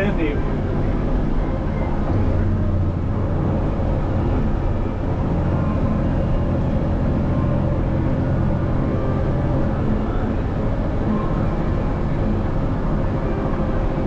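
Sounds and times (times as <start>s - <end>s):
diesel engines droning: 0.0s - 14.0s.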